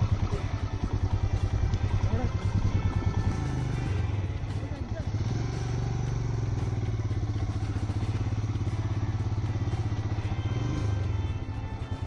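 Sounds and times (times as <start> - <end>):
motorcycle engine thumping: 0.0 - 10.3.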